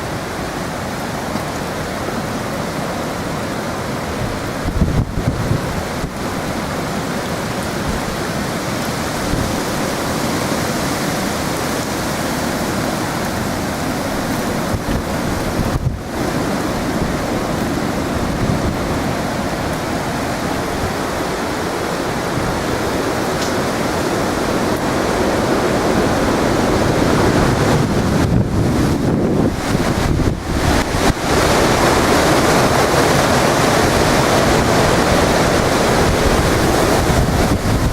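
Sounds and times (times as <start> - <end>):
strong storm wind buffeting microphone: 0.0 - 37.9.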